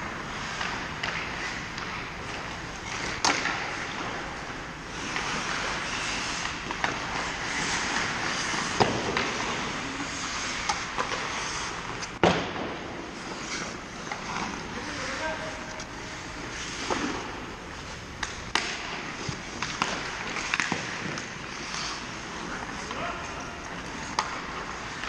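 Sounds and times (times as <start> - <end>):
hockey sticks and puck knocking: 0.0 - 15.9, 16.5 - 23.2, 23.8 - 25.0
skates scraping on ice: 0.0 - 25.0.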